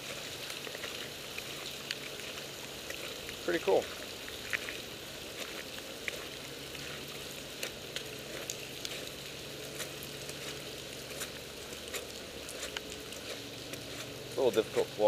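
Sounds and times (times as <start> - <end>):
rain and hail falling: 0.0 - 15.0.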